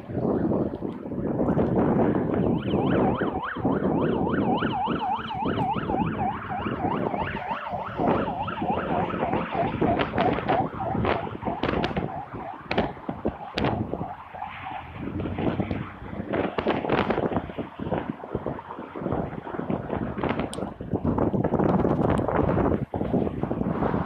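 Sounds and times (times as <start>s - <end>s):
police siren yelping: 0.0s - 20.5s
rushing background noise: 0.0s - 24.0s.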